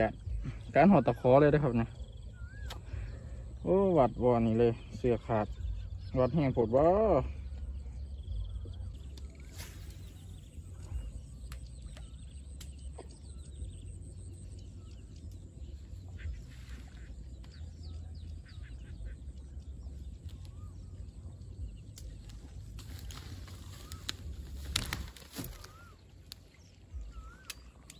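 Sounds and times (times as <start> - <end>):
faint bird chirps: 0.0 - 27.9
steady low rumble: 0.0 - 27.9.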